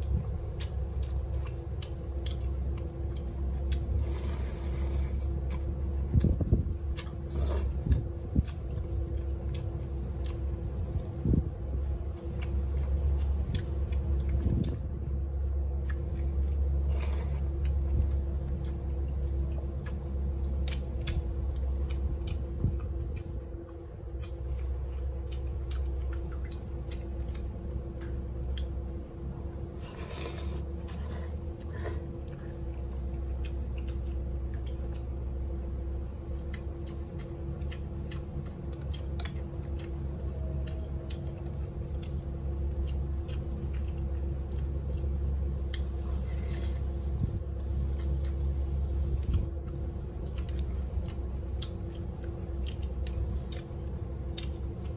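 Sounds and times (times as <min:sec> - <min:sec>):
chewing noises: 0:00.0 - 0:54.9
steady low hum: 0:00.0 - 0:54.9.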